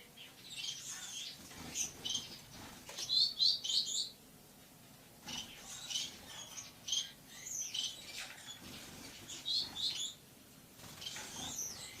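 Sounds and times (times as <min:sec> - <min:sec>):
lovebird chirping: 0:00.0 - 0:04.2, 0:05.3 - 0:10.2, 0:10.8 - 0:12.0.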